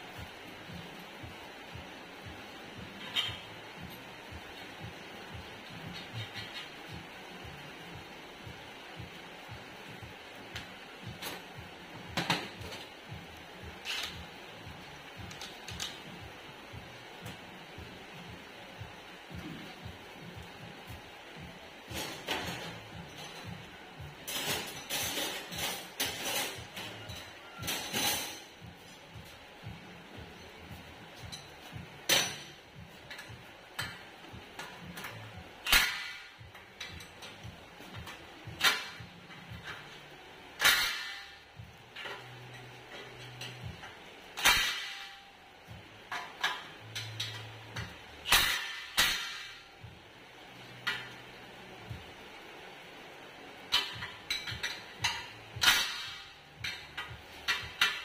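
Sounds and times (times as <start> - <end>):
music with steady beat: 0.0 - 58.0.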